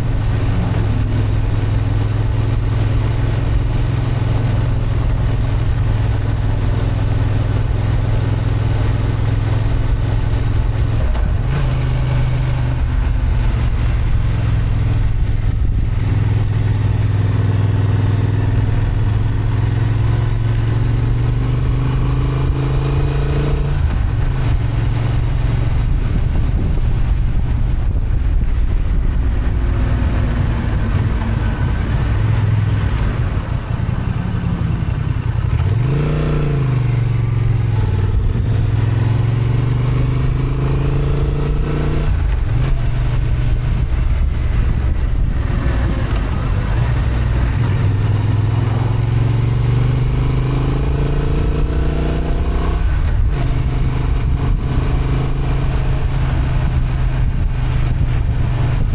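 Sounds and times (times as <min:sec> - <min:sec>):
motorcycle engine revving: 0:00.0 - 0:58.9
road noise: 0:00.0 - 0:58.9
wind noise: 0:00.0 - 0:58.9.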